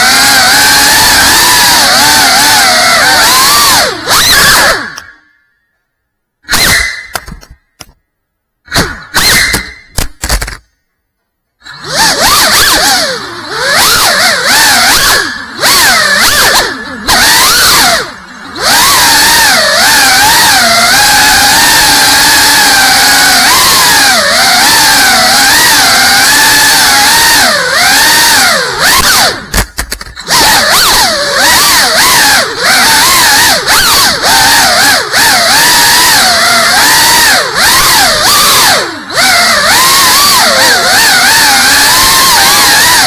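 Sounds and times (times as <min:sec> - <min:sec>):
drone motors buzzing whine: 0:00.0 - 0:05.9, 0:11.4 - 0:43.0.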